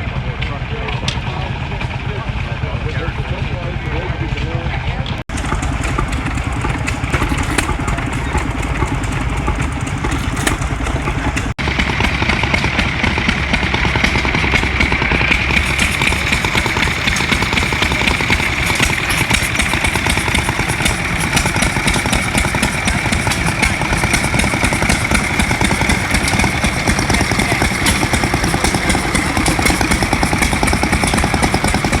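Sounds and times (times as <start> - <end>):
old engines clattering: 0.0 - 32.0.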